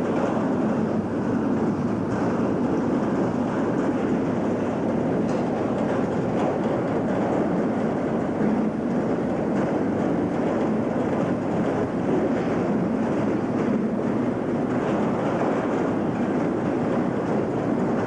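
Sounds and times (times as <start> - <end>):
boxcar rattling: 0.0 - 18.0
train wheels on rails: 0.0 - 18.0.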